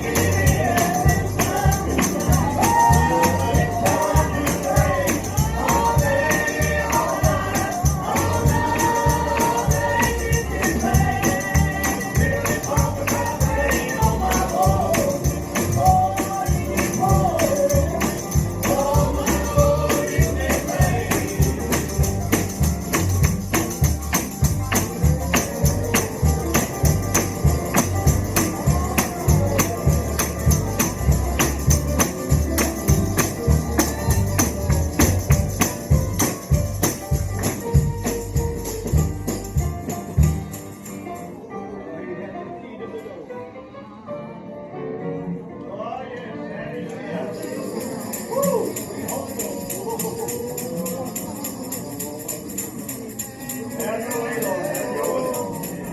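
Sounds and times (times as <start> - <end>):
voices singing: 0.0 - 40.8, 45.6 - 55.9
tambourine beating: 0.0 - 41.4, 47.2 - 55.9
gospel band: 0.0 - 55.9.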